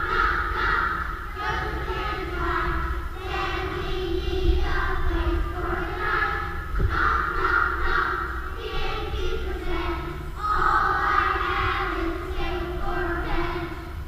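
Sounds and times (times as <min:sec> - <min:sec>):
children singing together: 0:00.0 - 0:14.0.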